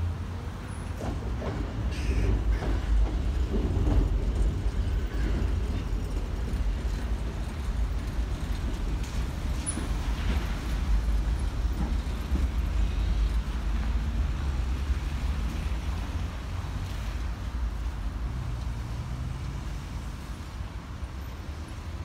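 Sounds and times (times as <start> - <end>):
tram rumbling over bridge: 0.0 - 22.0.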